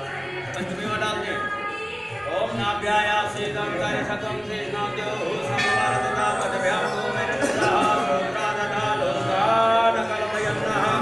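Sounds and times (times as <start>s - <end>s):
voices singing a chant: 0.0s - 11.0s.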